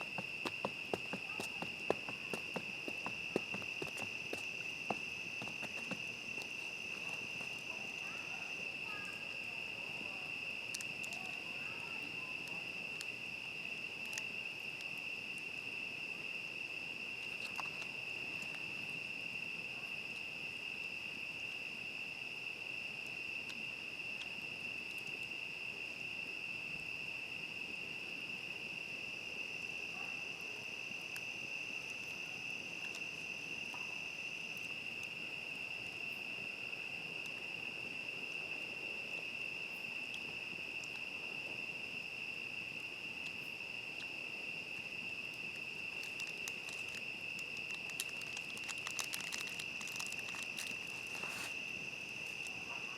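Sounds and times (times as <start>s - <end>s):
crickets trilling: 0.0s - 52.9s
faint campfire crackles: 0.0s - 52.9s.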